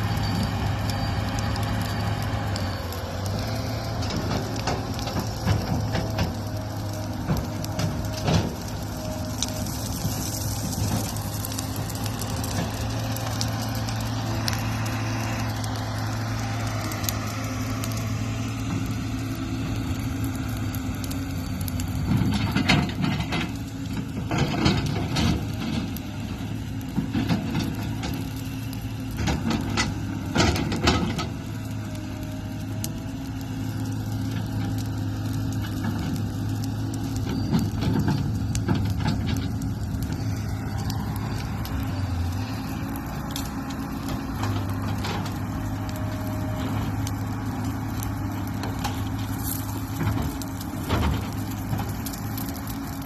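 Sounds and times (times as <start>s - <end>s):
bonfire crackling and popping: 0.0s - 53.0s.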